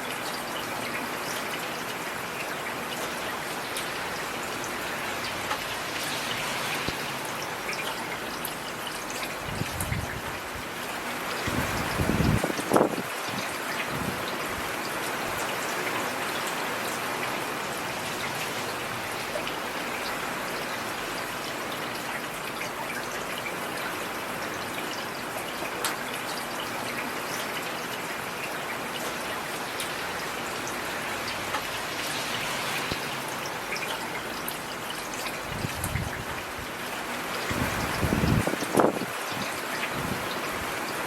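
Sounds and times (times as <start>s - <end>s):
heavy rain falling: 0.0s - 41.0s
scattered raindrops pattering: 0.0s - 41.0s.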